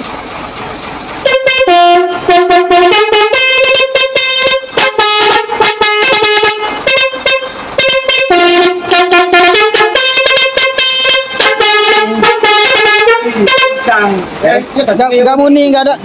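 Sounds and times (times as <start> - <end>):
musical truck horn tune: 1.2 - 14.3.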